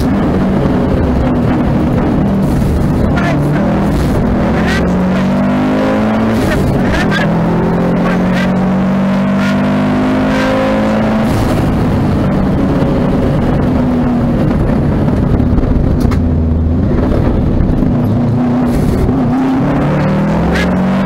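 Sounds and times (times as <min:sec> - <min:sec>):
rally car engine at speed: 0:00.0 - 0:21.0
road and tyre noise: 0:00.0 - 0:21.0.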